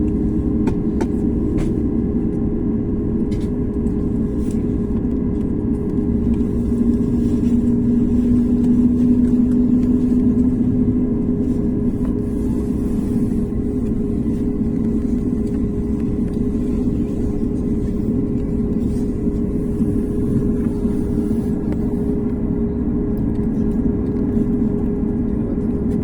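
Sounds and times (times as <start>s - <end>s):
airliner cabin drone: 0.0s - 26.0s.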